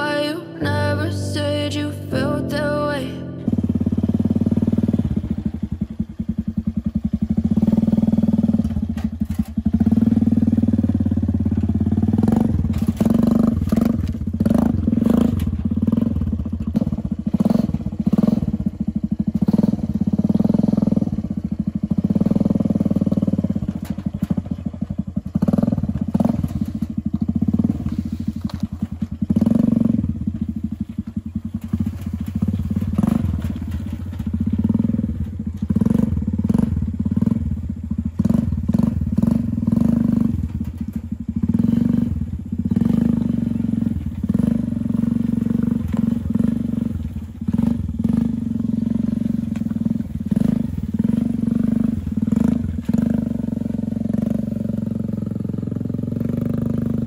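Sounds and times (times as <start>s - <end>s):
small petrol engine running: 3.5s - 57.0s.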